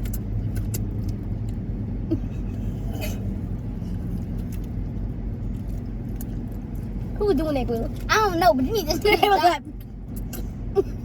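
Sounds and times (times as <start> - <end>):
car running from inside cabin: 0.0 - 11.0.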